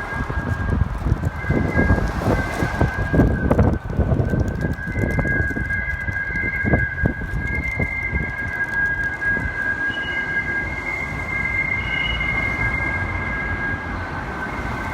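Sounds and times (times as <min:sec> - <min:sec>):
gusting wind rumble: 0:00.0 - 0:14.9
higher whistling tone: 0:00.0 - 0:14.9
wind whistling in parking garage: 0:00.0 - 0:14.9.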